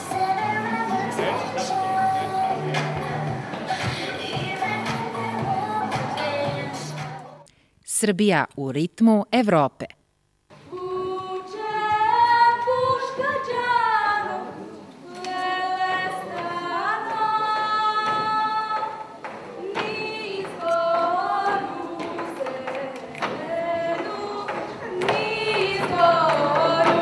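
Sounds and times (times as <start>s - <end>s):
girl singing unaccompanied: 0.0s - 7.4s, 10.6s - 27.0s.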